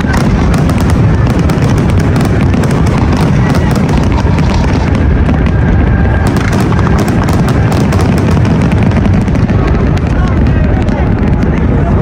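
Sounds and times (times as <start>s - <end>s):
fireworks booming: 0.0s - 12.0s
fireworks crackling pops: 0.0s - 12.0s.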